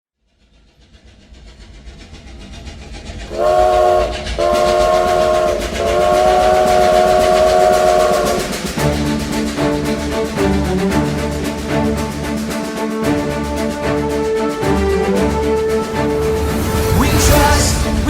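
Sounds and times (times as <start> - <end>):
steam train chugging: 0.2 - 18.0.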